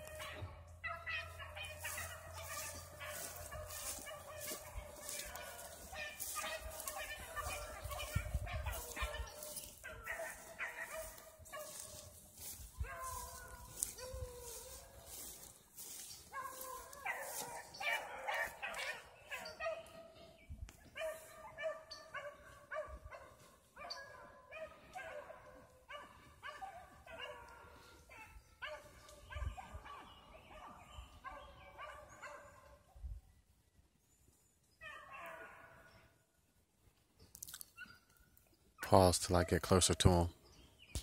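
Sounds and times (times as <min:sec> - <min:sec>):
dogs barking: 0:00.0 - 0:32.9, 0:34.8 - 0:36.1.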